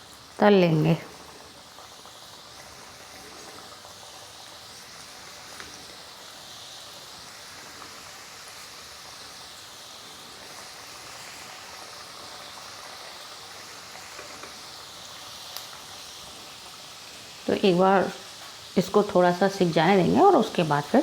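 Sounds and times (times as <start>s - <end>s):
snacks sizzling in hot oil: 0.0s - 21.0s.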